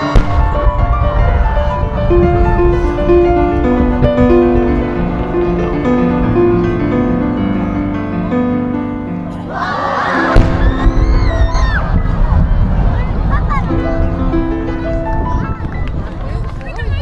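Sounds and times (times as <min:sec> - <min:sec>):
slow piano-like keyboard notes: 0:00.0 - 0:16.2.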